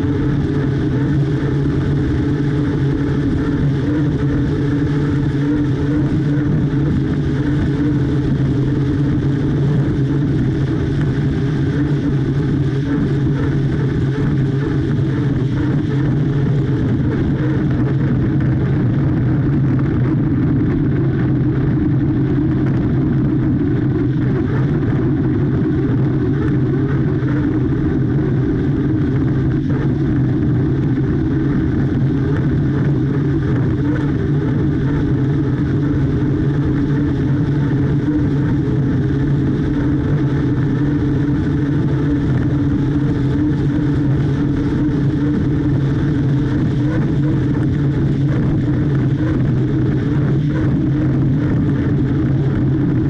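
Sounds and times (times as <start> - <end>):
turbine engine drone: 0.0 - 53.0
wind: 0.0 - 53.0.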